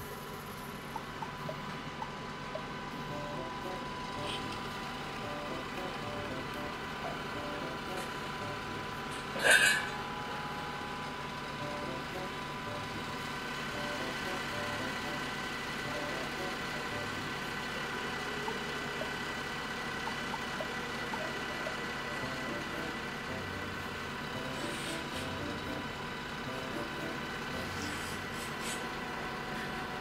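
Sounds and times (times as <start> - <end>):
vacuum truck droning: 0.0 - 30.0.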